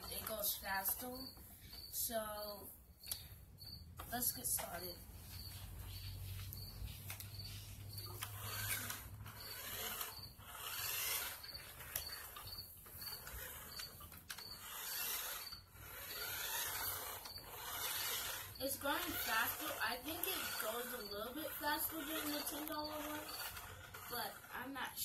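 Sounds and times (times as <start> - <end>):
toy truck electric motor whirring: 0.0 - 25.0.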